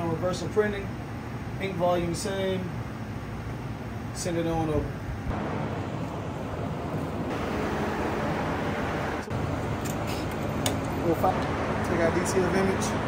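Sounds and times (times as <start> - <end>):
fan running with hum: 0.0 - 13.0.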